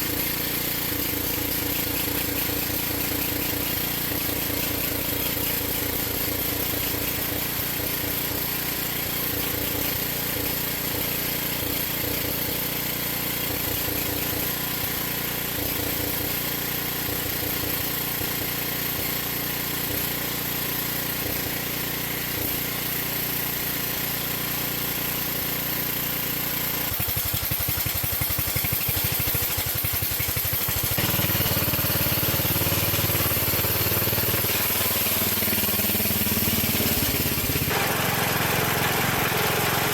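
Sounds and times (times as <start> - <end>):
small engine running unevenly: 0.0 - 39.9.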